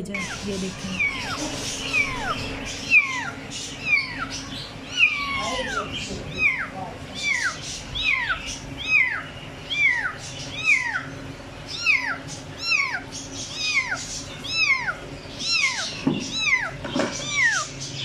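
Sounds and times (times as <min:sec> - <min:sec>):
kitten meowing: 0:00.2 - 0:04.3, 0:04.9 - 0:11.1, 0:11.7 - 0:13.0, 0:13.6 - 0:17.7.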